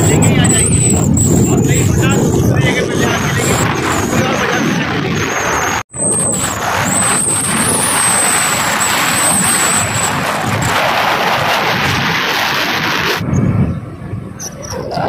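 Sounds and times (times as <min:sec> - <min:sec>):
thin high whine: 0:00.0 - 0:13.4
vehicle wind and road noise: 0:00.0 - 0:15.0.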